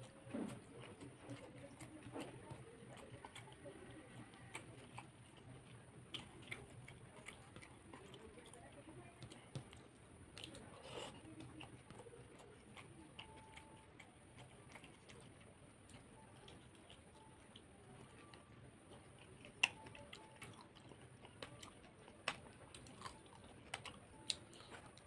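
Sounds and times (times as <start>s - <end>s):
fingers squishing through food: 0.0s - 25.0s
person chewing food: 0.0s - 25.0s.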